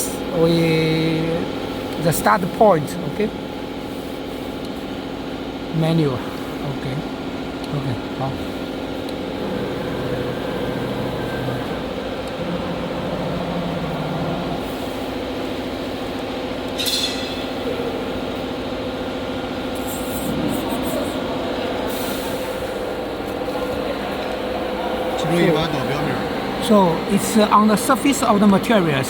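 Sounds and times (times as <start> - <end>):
cnc router hum: 0.0 - 29.0.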